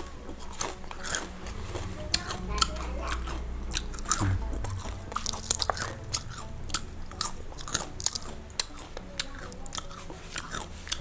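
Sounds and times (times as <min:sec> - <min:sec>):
chewing crunchy fried food: 0:00.0 - 0:11.0.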